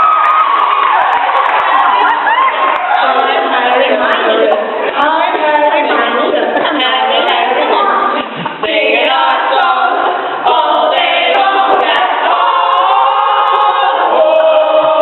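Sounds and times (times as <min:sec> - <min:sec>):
group singing a cappella: 0:02.7 - 0:15.0.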